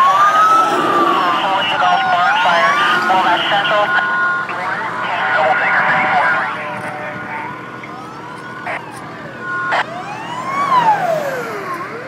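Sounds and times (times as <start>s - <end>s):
fire truck sirens wailing: 0.0s - 12.0s.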